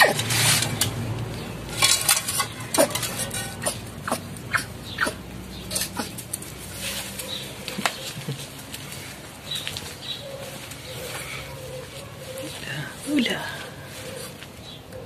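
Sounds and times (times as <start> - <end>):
armadillo clicking and squeaking: 0.0 - 12.7.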